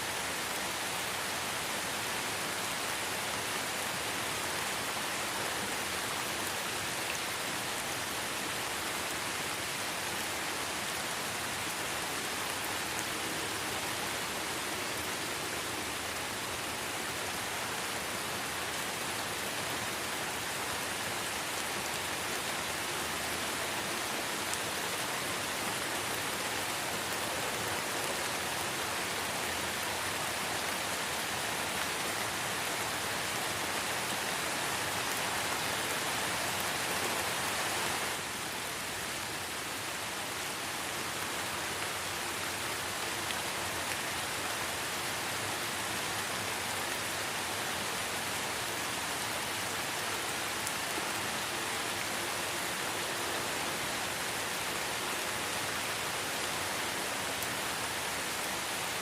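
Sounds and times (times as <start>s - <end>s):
light rain in a forest: 0.0s - 59.0s.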